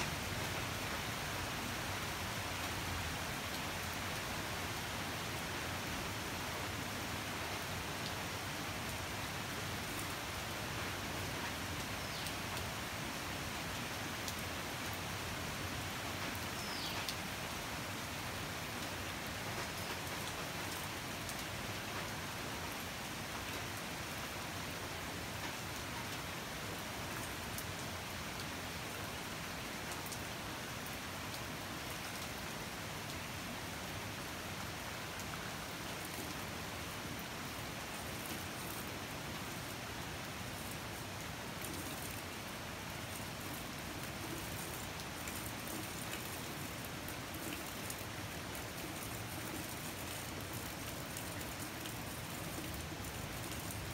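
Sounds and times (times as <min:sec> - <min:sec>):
rain on leafy vegetation: 0:00.0 - 0:53.9.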